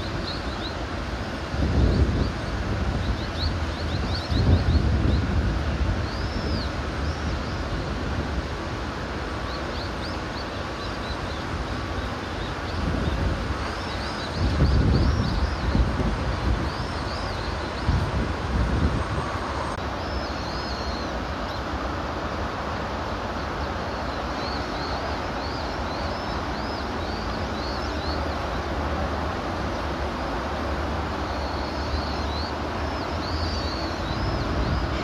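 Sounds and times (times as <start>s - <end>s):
small birds chirping: 0.0s - 0.9s, 1.6s - 7.8s, 9.2s - 28.9s, 30.6s - 35.0s
outdoor rumble and hiss: 0.0s - 35.0s.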